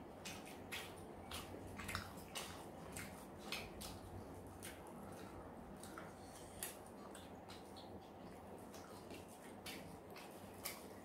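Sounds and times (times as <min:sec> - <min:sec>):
person chewing food: 0:00.0 - 0:11.0
fingers pulling at chicken: 0:00.2 - 0:11.0.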